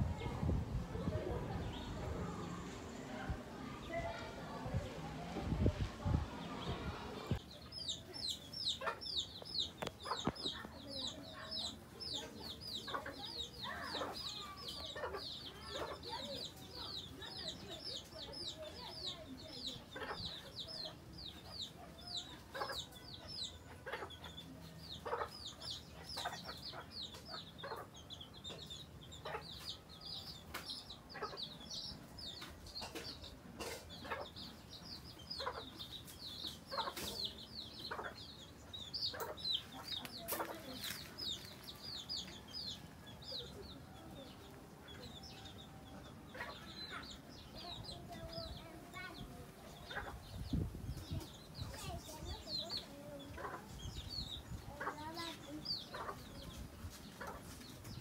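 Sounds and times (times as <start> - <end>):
chicks peeping: 0.0 - 58.0
hen clucking: 6.4 - 18.9, 19.7 - 42.5, 46.3 - 57.7.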